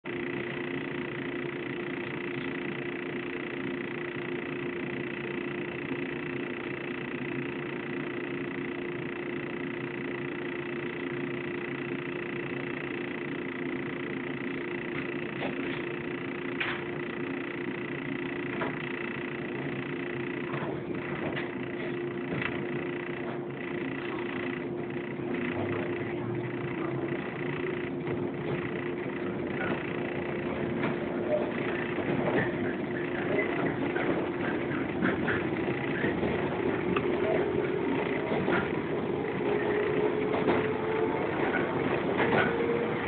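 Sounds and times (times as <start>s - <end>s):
electric train hum and whine: 0.0s - 43.0s.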